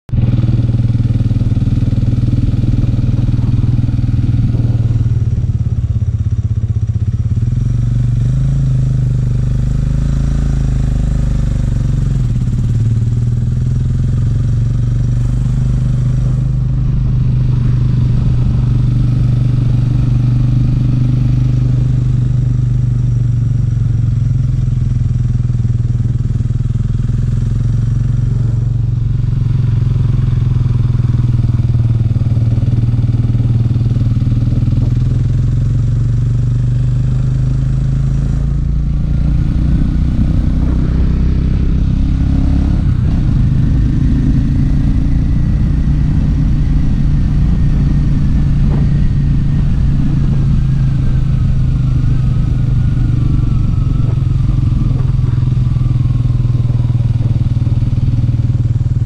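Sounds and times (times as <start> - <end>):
motorcycle engine running: 0.1 - 59.0.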